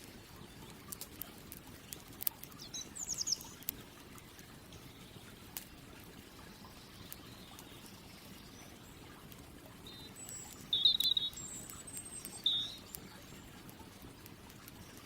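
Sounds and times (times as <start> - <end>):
faint campfire crackles: 0.0 - 15.0
steady low background noise: 0.0 - 15.0
birds chirping: 1.7 - 15.0.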